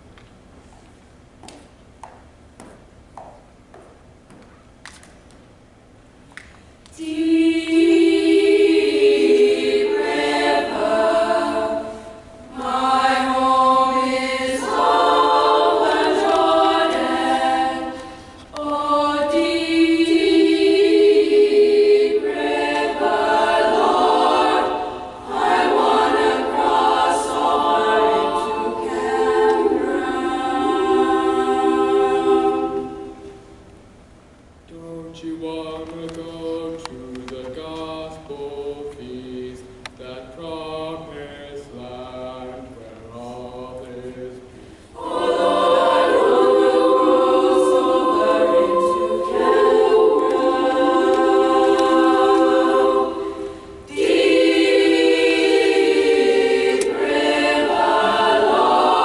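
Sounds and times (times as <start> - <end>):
boys' choir singing a cappella: 6.9 - 33.6, 34.7 - 59.0.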